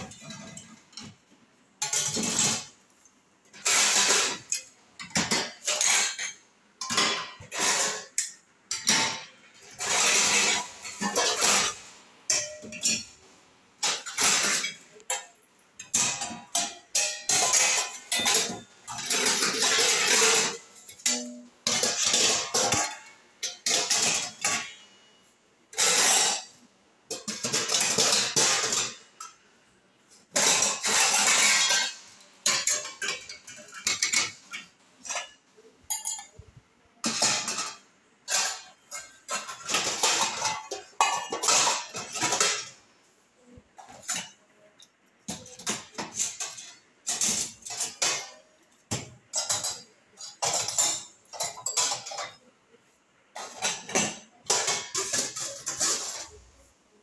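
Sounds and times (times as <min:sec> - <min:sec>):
steel dishes clattering: 0:00.0 - 0:57.0.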